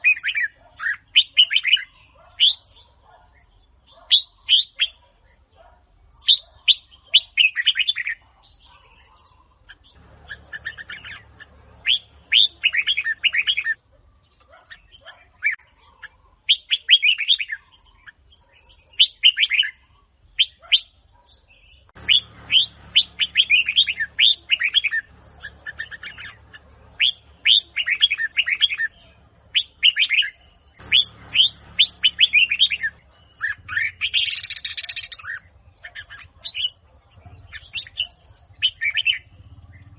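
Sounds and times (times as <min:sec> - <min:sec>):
bird singing chirpy phrases: 0:00.0 - 0:39.9.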